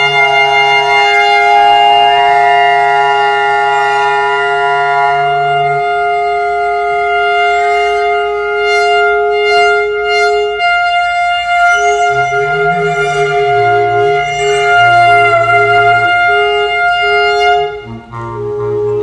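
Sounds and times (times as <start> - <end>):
alto saxophone: 0.0 - 19.0
clarinets playing long tones: 0.0 - 19.0.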